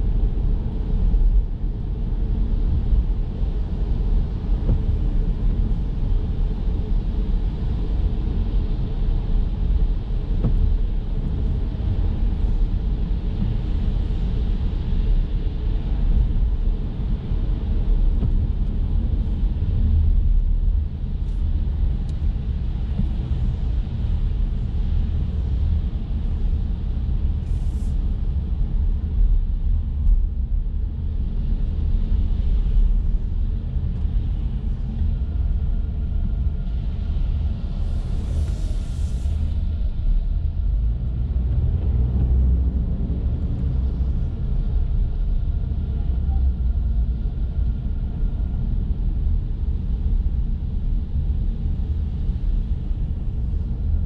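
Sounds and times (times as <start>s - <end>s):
car tyres on wet road: 0.0s - 54.0s.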